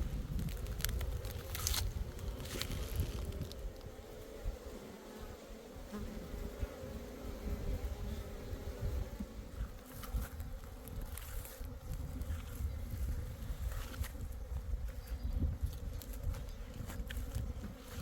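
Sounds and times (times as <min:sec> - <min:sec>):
insect buzzing: 0:00.0 - 0:18.0.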